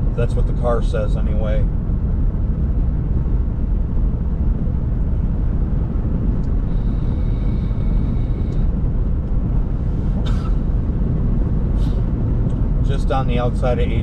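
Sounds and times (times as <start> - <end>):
car driving on snowy road: 0.0 - 14.0.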